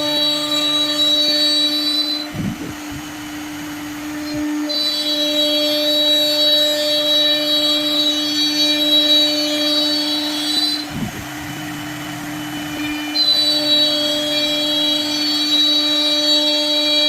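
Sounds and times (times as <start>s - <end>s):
woodworking machine motor whine: 0.0s - 17.0s.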